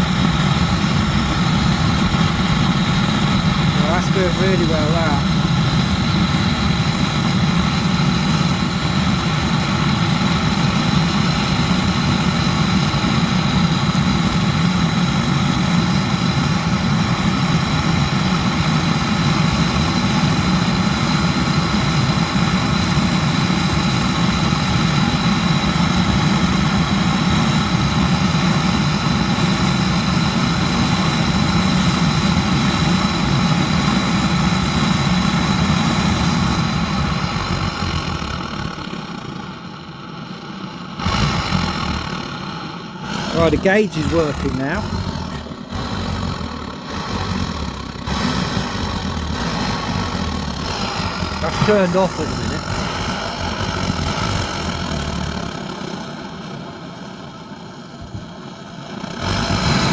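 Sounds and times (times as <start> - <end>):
petrol burner roaring: 0.0 - 59.9.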